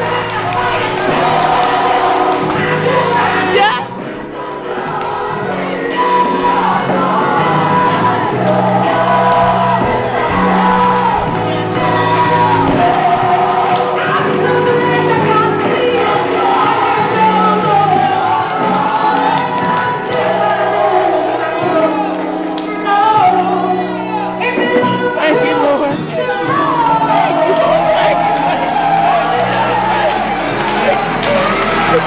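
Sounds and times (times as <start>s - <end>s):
congregation shouting and whooping: 0.0s - 32.0s
gospel singing: 0.0s - 32.0s.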